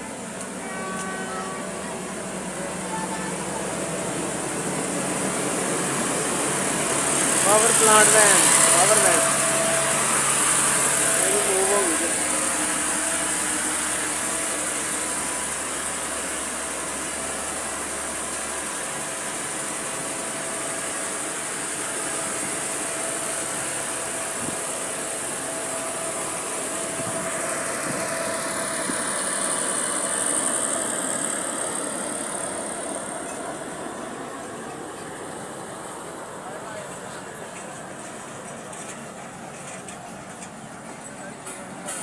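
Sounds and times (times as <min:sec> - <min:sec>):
passenger train rolling rush: 0:00.0 - 0:42.0.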